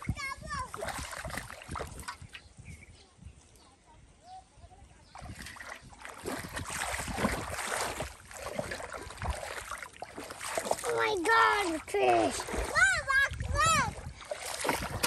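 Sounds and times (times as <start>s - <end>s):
muddy water splashing: 0.0s - 2.6s, 5.0s - 15.0s.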